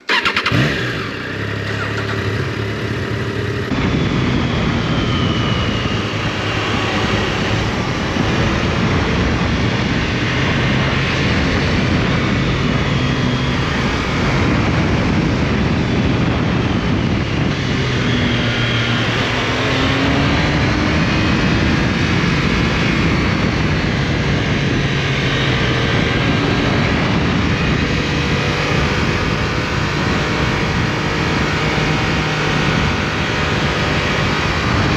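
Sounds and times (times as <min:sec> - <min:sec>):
motorcycle engine under load: 0:00.0 - 0:34.9
wind noise on helmet: 0:00.1 - 0:34.9.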